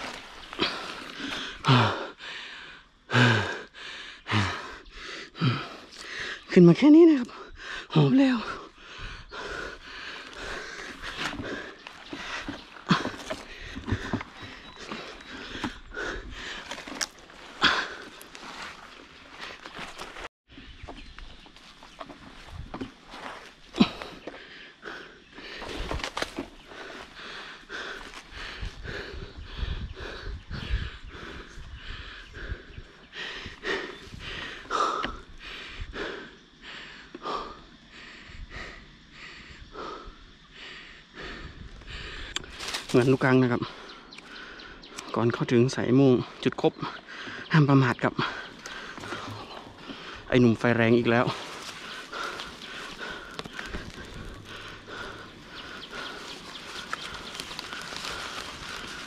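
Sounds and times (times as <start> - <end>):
man panting hard: 0.0 - 6.5, 7.3 - 20.8, 23.1 - 42.8, 43.5 - 45.1, 46.2 - 59.0.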